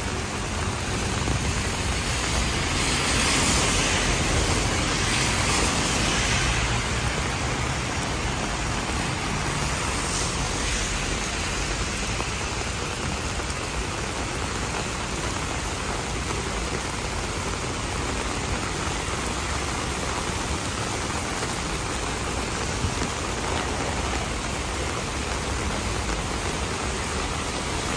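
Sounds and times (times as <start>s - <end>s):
rain on wet pavement: 0.0s - 27.9s.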